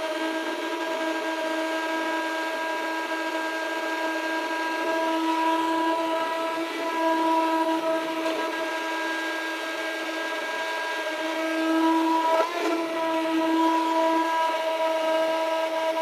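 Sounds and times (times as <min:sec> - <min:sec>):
stick blender motor whine: 0:00.0 - 0:16.0.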